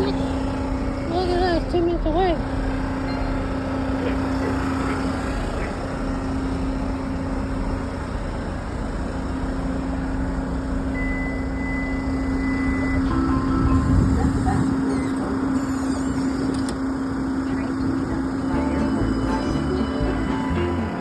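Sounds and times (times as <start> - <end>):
constant low hum: 0.0 - 21.0
vehicle rumble: 0.0 - 21.0.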